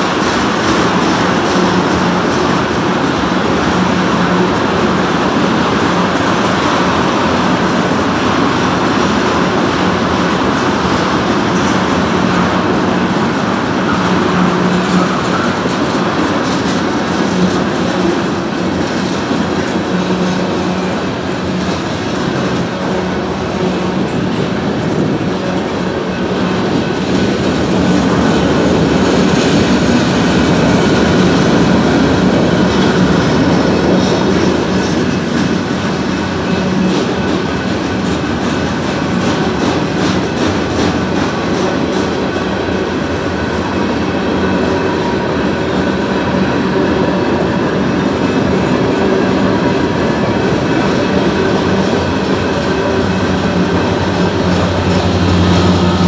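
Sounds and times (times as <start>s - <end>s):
freight train wheels clattering on rails: 0.0s - 56.0s.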